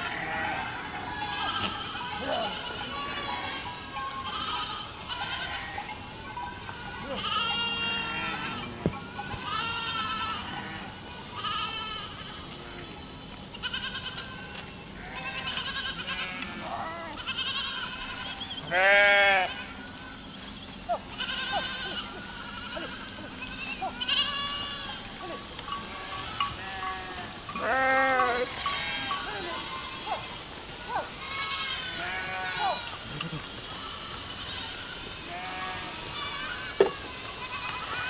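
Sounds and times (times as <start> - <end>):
goats bleating: 0.0 - 38.0.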